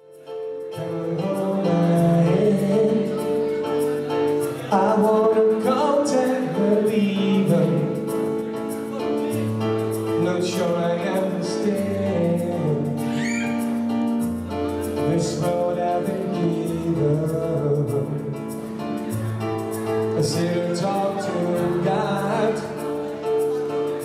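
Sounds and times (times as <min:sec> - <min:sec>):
song with singing: 0:00.6 - 0:13.9, 0:14.8 - 0:24.0.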